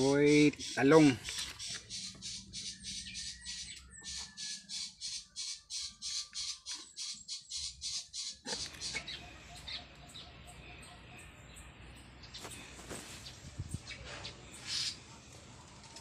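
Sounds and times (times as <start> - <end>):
raspy high-pitched chirping: 0.0 - 15.1.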